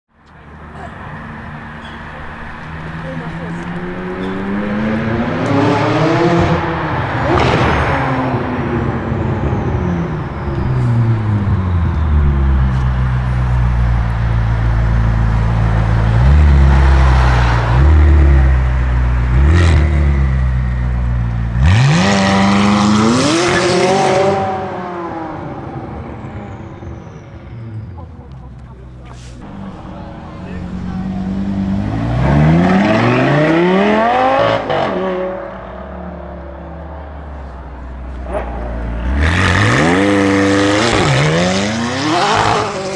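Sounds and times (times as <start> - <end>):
loud car engine revving: 1.0 - 28.3, 29.1 - 42.9
car accelerating hard: 2.3 - 13.5, 15.1 - 28.0, 29.0 - 36.5, 38.1 - 42.9.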